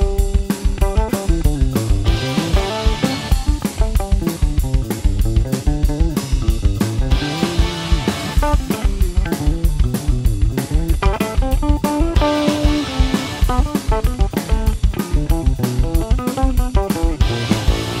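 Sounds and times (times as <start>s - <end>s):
drum kit beat: 0.0s - 18.0s
electric bass line: 0.0s - 18.0s.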